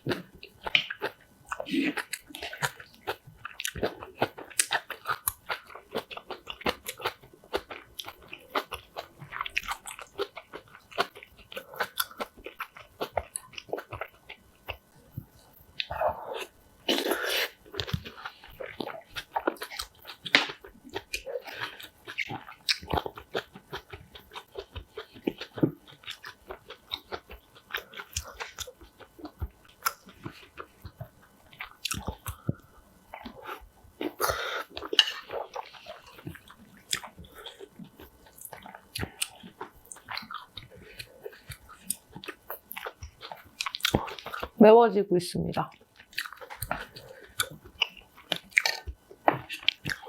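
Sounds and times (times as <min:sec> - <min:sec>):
person chewing crunchy food: 0:00.0 - 0:44.6, 0:45.7 - 0:50.0.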